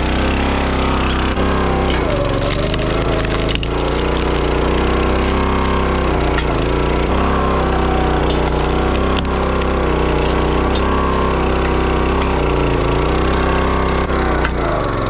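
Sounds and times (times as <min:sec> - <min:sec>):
log splitter engine running: 0:00.0 - 0:15.0
sharp crack: 0:00.0 - 0:15.0.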